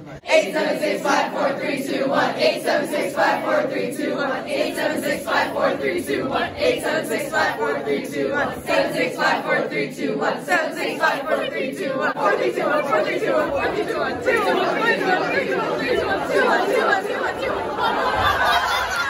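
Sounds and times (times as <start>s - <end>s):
group of young voices singing: 0.0s - 19.0s.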